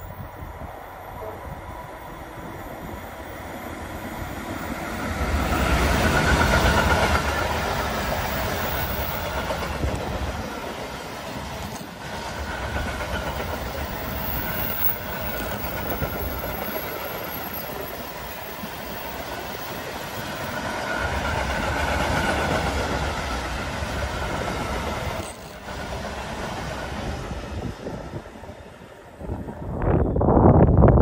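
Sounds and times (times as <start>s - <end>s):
train wheels rolling on track: 0.0s - 30.9s.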